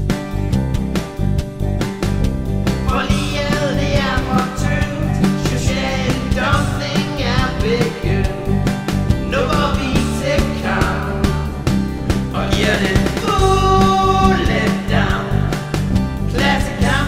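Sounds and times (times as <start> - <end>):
guitar: 0.0 - 17.0
steady drum beat: 0.0 - 17.0
person singing rock song: 2.7 - 17.0.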